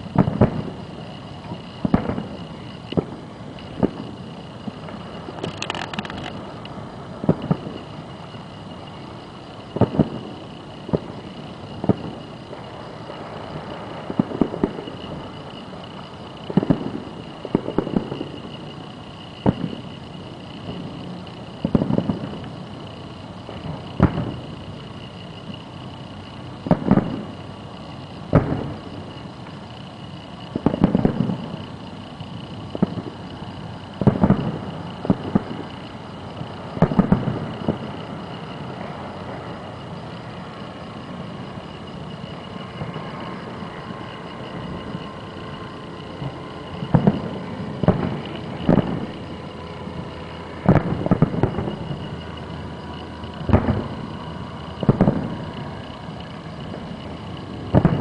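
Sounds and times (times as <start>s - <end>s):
distant fireworks booms: 0.0s - 9.0s, 9.6s - 18.6s, 19.2s - 25.6s, 26.6s - 27.5s, 28.3s - 31.7s, 32.3s - 40.6s, 45.9s - 52.2s, 52.8s - 58.0s.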